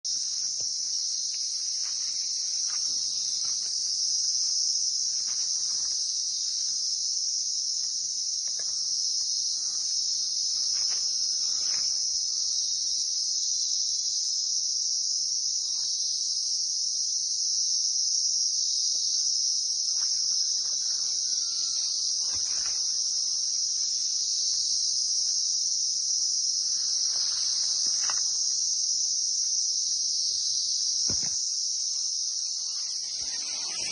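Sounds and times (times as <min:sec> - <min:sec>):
insects shrilling: 0:00.1 - 0:33.9.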